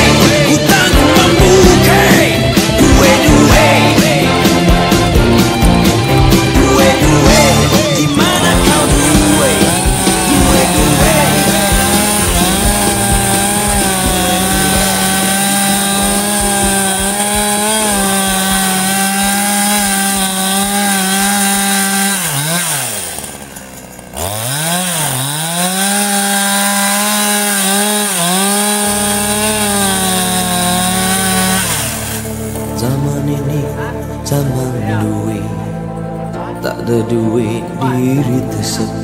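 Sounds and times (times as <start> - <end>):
chainsaw cutting wood: 0.0 - 33.1.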